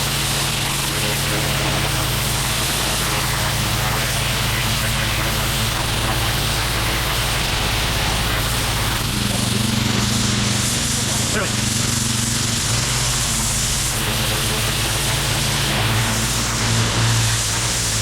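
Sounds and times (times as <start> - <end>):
high-pressure water spray hissing: 0.0 - 18.0
pressure washer engine running: 0.0 - 18.0.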